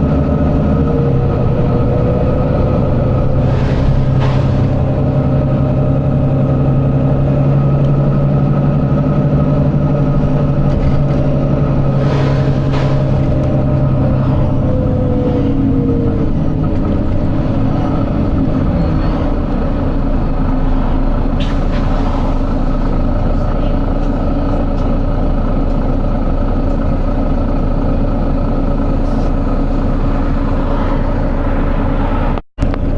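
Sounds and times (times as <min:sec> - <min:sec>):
bus diesel engine droning: 0:00.0 - 0:32.9.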